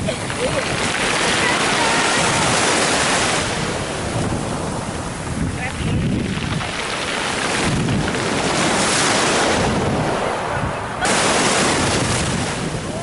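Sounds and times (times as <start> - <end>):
surf breaking in shallows: 0.0 - 13.0.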